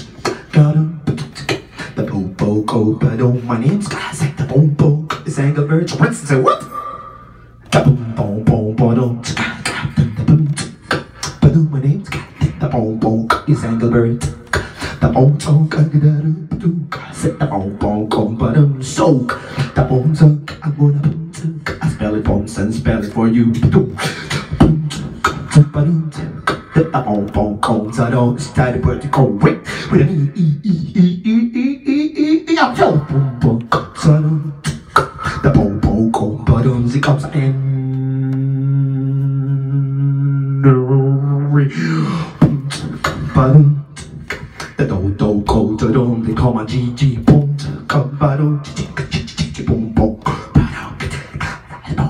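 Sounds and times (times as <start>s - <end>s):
person beatboxing: 0.0s - 52.0s.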